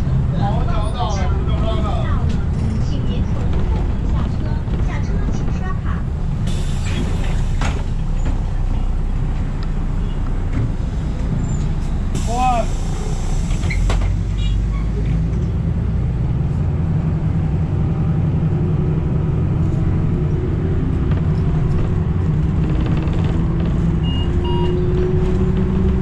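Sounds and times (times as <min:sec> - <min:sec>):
bus drivetrain and road drone: 0:00.0 - 0:26.0.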